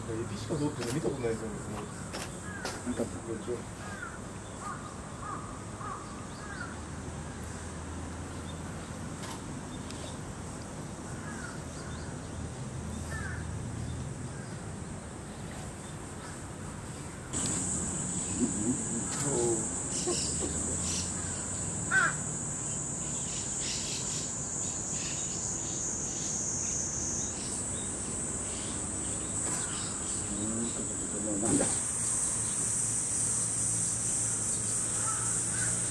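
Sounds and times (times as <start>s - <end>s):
high insect drone: 0.0s - 35.9s.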